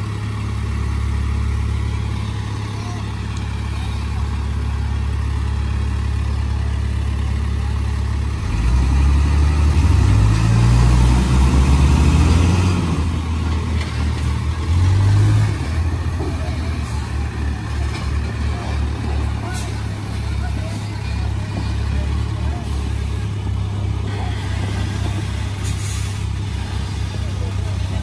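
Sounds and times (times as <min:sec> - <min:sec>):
diesel engines labouring and revving: 0:00.0 - 0:28.0.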